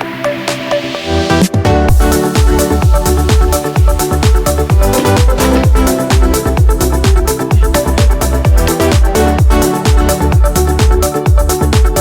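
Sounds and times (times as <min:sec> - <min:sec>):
synth chords: 0:00.2 - 0:12.0
kick drum: 0:01.4 - 0:12.0
hi-hats: 0:02.0 - 0:12.0.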